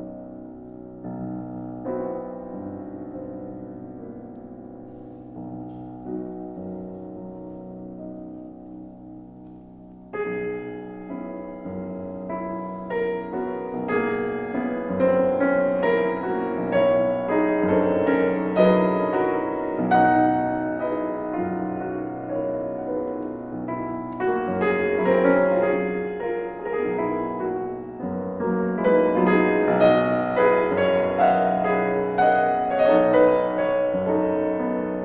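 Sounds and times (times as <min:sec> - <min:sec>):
classical piano music: 0:00.0 - 0:35.0.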